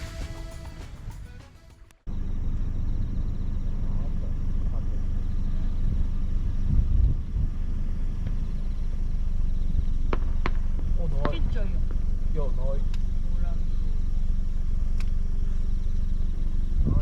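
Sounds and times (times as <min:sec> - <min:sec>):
steady low rumble: 0:02.1 - 0:17.0.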